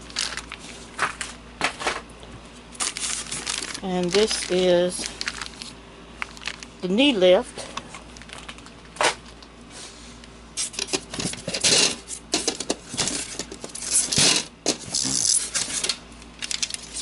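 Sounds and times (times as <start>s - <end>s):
plastic packaging rustling: 0.0s - 6.8s, 7.4s - 9.5s, 10.6s - 17.0s.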